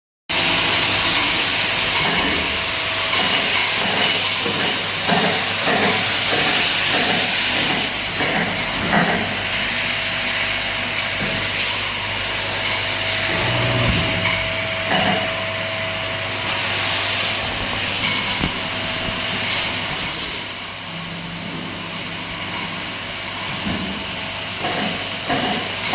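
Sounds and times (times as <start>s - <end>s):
bottling machine noise: 0.3s - 25.9s.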